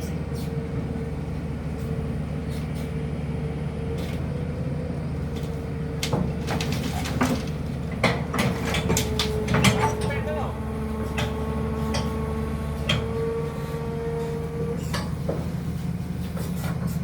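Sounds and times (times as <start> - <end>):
engine whine: 0.0 - 16.9
heavy diesel engine rumbling: 0.0 - 17.0.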